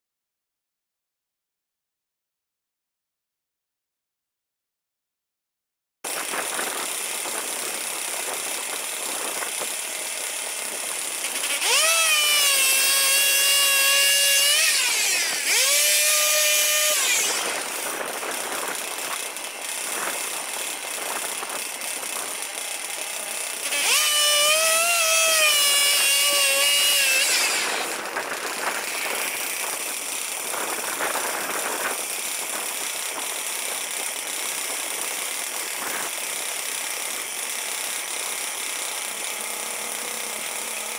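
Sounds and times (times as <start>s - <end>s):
small engine running: 6.1s - 40.9s.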